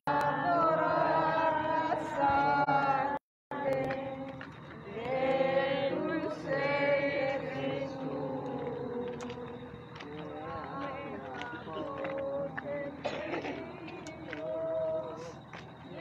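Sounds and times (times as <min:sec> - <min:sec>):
crowd singing a hymn: 0:00.0 - 0:16.0.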